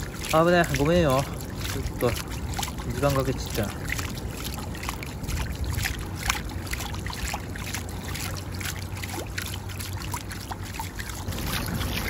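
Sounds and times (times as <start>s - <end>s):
water splashed by hand: 0.0s - 12.0s.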